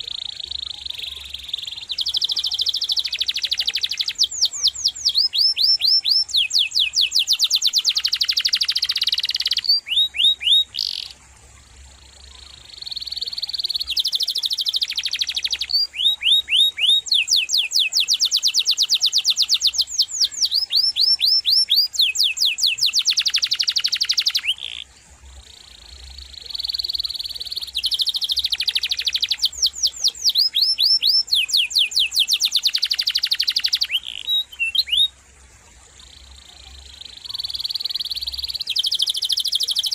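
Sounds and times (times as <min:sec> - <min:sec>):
canary singing trills: 0:00.0 - 0:11.2, 0:11.8 - 0:35.2, 0:36.0 - 0:39.9.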